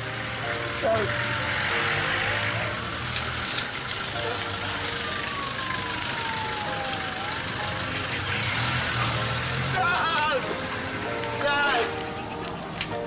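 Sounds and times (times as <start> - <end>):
diesel taxi driving off: 0.0 - 13.0.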